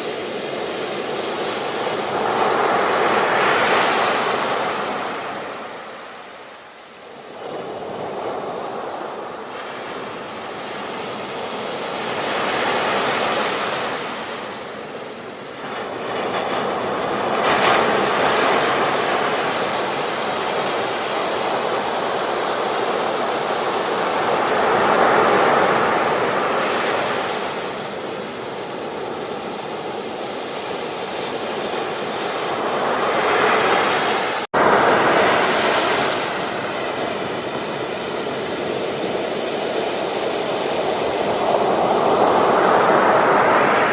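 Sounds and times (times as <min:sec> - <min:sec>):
surf breaking on a beach: 0:00.0 - 0:43.9.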